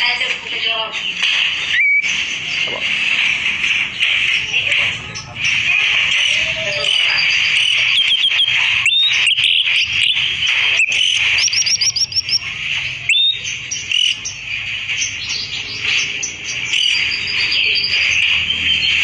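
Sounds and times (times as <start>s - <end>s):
songbird chirping: 0.7s - 19.0s.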